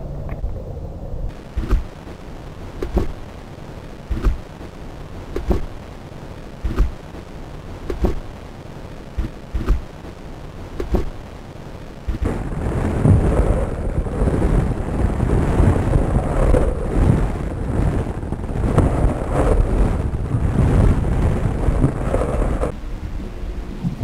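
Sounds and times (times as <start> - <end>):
dull low thumps: 0.0 - 24.0
loud rumbling noise: 0.0 - 24.0
steady low rumble: 0.0 - 24.0.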